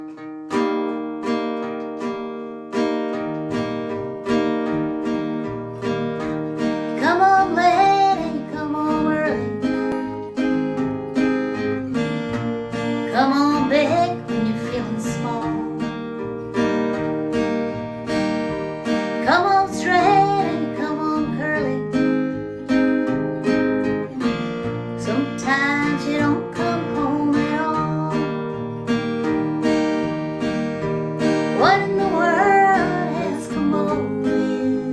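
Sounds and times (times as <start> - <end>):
acoustic guitar strumming: 0.0 - 34.9.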